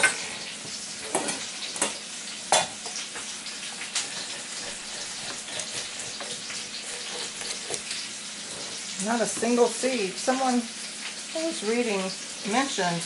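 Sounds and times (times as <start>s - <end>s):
chicken sizzling in grease: 0.0s - 13.0s.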